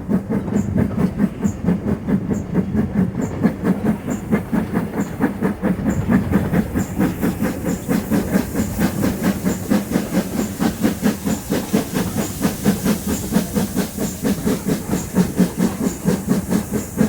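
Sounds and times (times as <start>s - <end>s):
steam hissing: 0.0s - 17.0s
steam locomotive chuffing: 0.0s - 17.0s.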